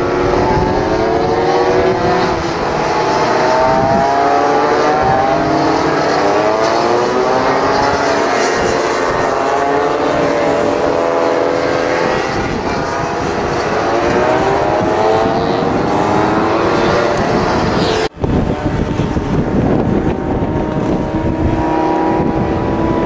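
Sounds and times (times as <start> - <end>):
racing scooter engines revving: 0.0 - 23.0.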